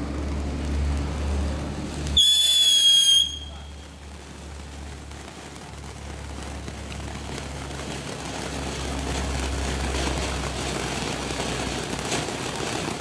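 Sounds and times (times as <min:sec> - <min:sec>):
firework crackles: 0:00.0 - 0:13.0
firework fountain hissing: 0:00.0 - 0:13.0.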